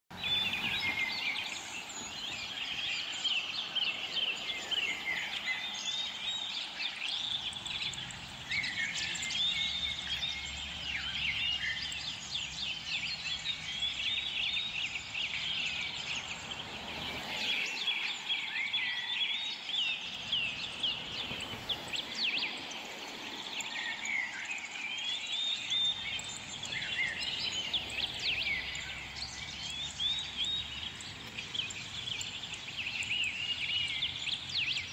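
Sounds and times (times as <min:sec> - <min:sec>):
small songbirds chirping: 0:00.1 - 0:34.9.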